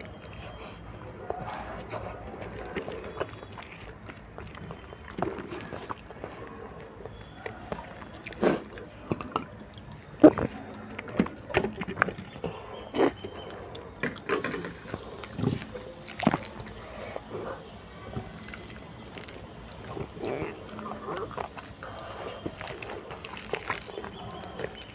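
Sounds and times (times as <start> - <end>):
fingers squelching through noodles: 0.0 - 10.9, 12.0 - 24.9
wet chewing: 0.0 - 24.9.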